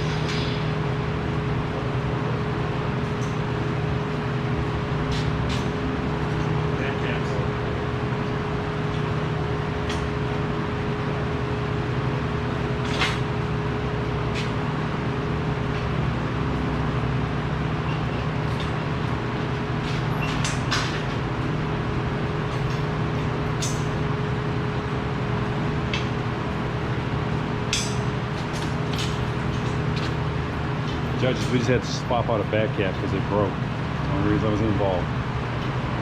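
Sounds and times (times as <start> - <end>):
welding shop machine hum: 0.0 - 36.0.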